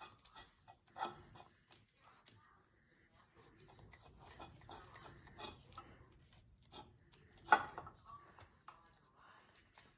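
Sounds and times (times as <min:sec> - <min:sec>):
cat licking and eating: 0:00.0 - 0:09.9.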